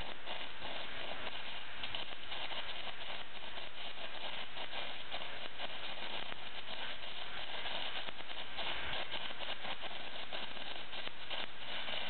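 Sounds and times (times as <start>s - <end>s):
welding arc crackling and sizzling: 0.0s - 12.0s.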